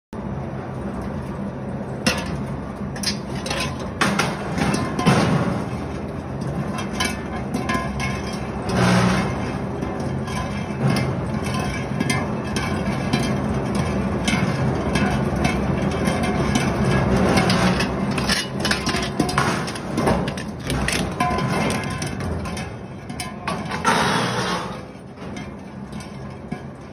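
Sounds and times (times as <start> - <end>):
metallic clanks and bangs: 1.9 - 26.9.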